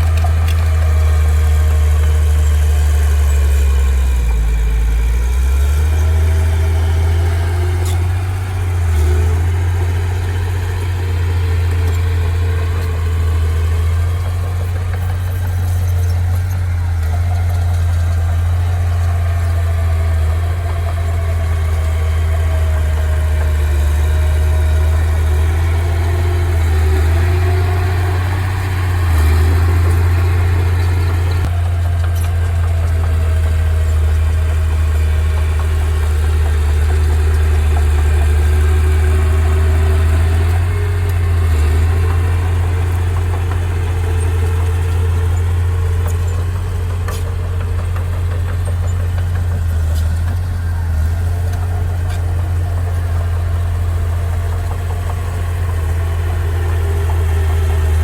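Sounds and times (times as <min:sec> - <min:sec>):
heavy machinery engine humming: 0:00.0 - 0:58.0.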